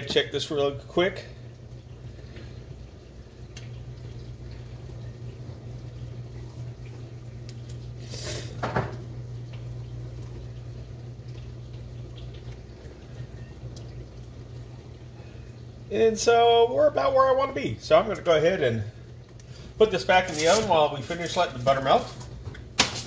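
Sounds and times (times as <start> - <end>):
low hum: 0.0 - 20.1
butter bubbling and sizzling: 0.0 - 23.0.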